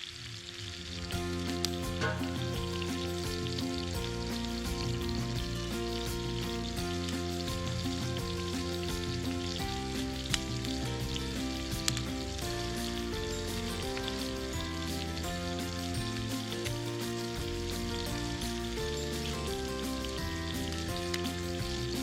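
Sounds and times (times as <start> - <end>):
food frying and sizzling: 0.0 - 22.0
background music of held notes: 0.4 - 22.0.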